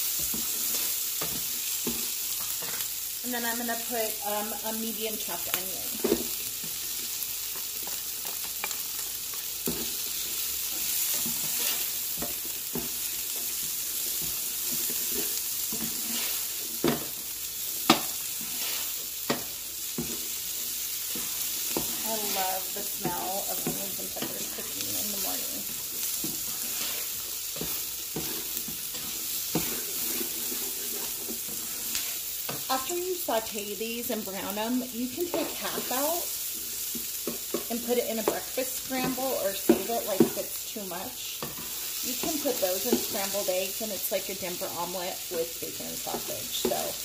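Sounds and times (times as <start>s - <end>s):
food sizzling in oil: 0.0s - 47.0s.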